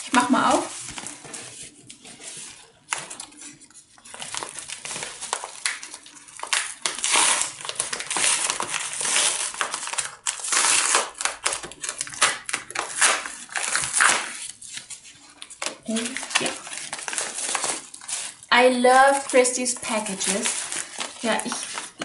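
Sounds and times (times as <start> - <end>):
padded mailer crinkling and ripping: 0.0 - 22.0.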